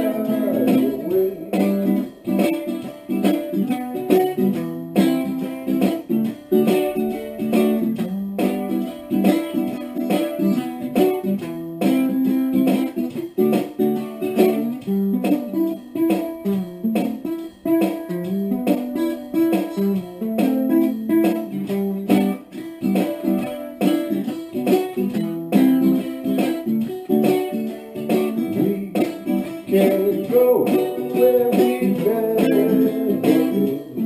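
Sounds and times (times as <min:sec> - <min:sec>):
electric ukulele strumming chords: 0:00.0 - 0:34.0.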